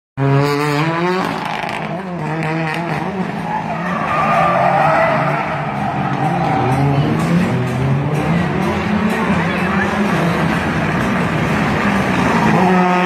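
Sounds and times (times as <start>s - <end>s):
car engine revving hard: 0.2s - 13.0s
tyres squealing and skidding: 2.5s - 13.0s.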